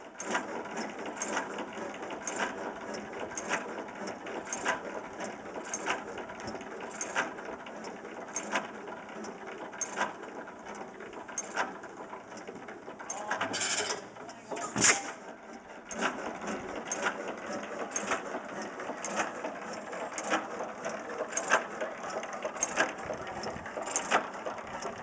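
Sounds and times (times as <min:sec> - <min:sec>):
mechanical clicking and clatter: 0:00.0 - 0:25.0.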